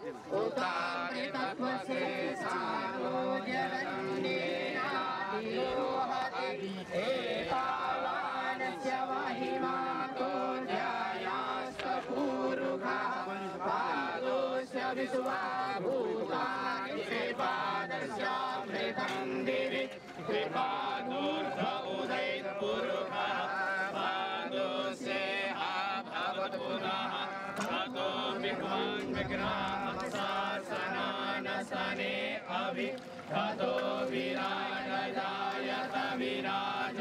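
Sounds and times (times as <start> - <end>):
men chanting together: 0.0 - 37.0.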